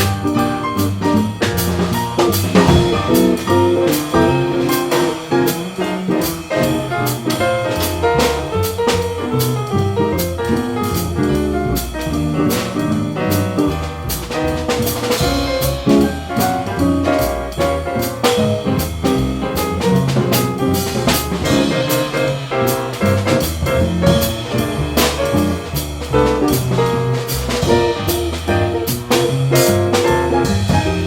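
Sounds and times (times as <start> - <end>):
double bass walking: 0.0 - 31.0
drum kit with cymbals: 0.0 - 31.0
piano: 0.0 - 31.0.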